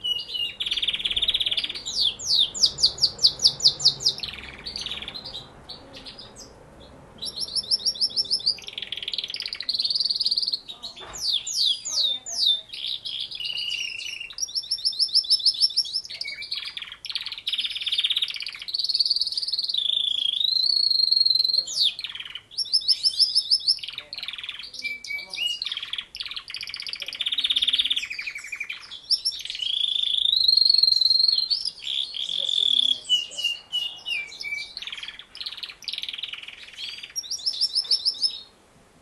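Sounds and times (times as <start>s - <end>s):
canary singing: 0.0s - 38.6s.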